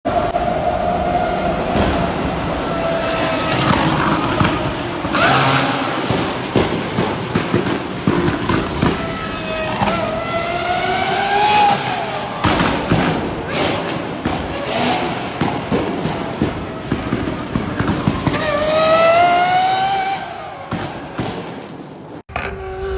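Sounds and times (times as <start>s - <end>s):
car engines revving: 0.1s - 22.9s
exhaust pops and crackles: 1.6s - 22.6s.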